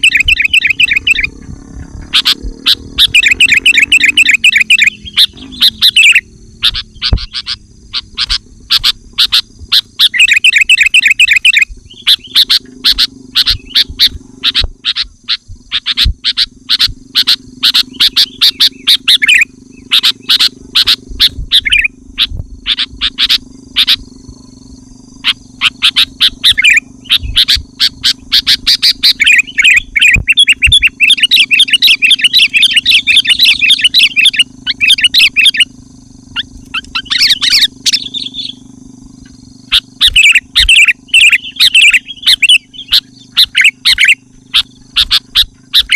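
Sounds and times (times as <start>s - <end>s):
bird singing chattering notes: 0.0s - 45.9s.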